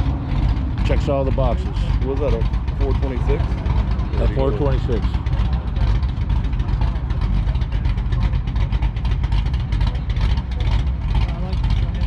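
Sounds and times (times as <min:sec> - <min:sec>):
car engine pulsing exhaust: 0:00.0 - 0:12.0.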